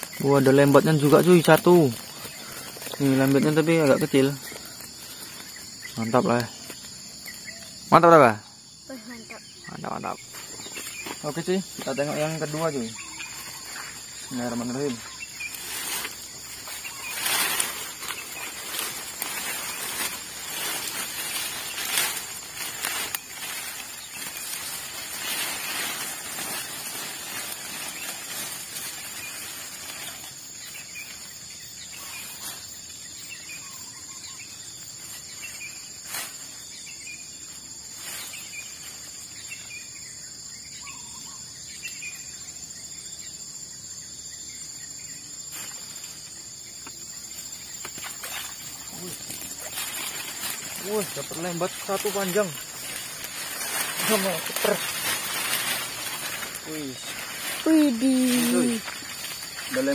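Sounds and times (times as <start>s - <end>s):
rustling through ferns: 0.0s - 8.2s, 8.9s - 42.4s, 44.8s - 59.9s
faint bird chirps: 0.0s - 59.9s
high insect drone: 0.0s - 59.9s.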